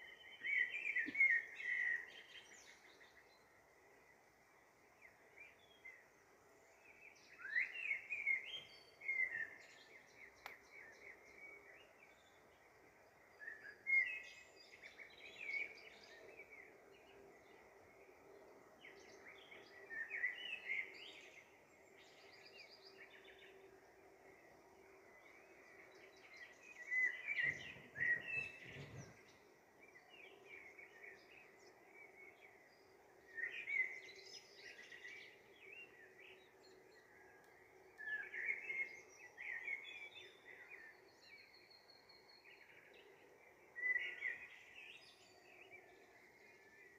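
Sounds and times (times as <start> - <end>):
faint steady hum: 0.0 - 46.9
small birds chirping: 0.0 - 46.9.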